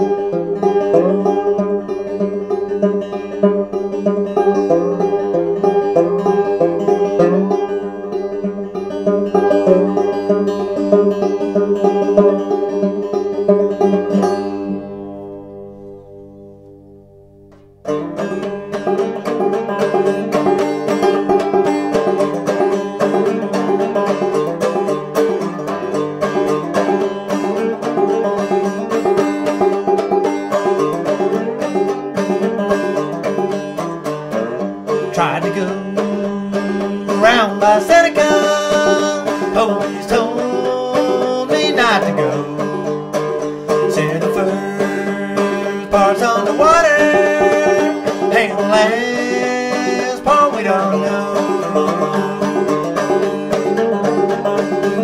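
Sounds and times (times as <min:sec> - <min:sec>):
bluegrass plucked strings: 0:00.0 - 0:55.0
sliding higher melody: 0:00.0 - 0:55.0.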